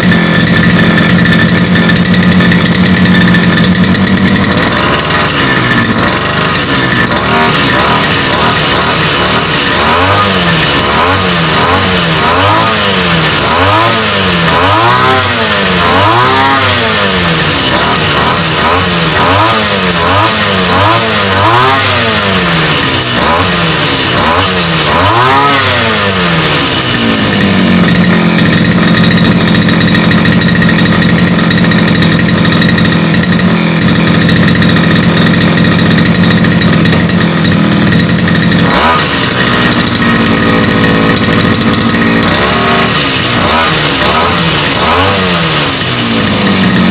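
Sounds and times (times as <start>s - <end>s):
small engine revving: 0.0s - 46.9s.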